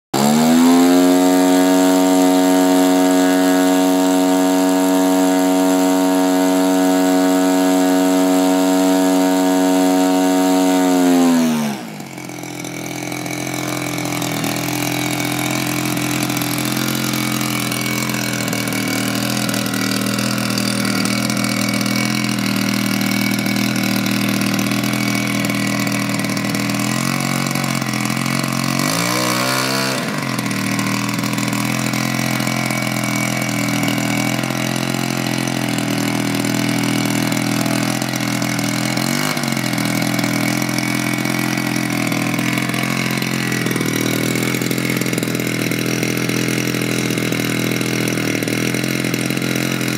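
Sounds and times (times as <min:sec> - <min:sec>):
model plane engine revving and idling: 0:00.1 - 0:49.9.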